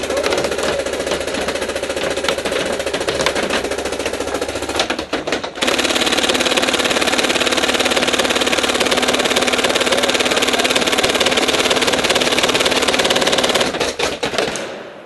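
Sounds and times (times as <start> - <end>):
paintball gun rapid fire: 0.0 - 15.0.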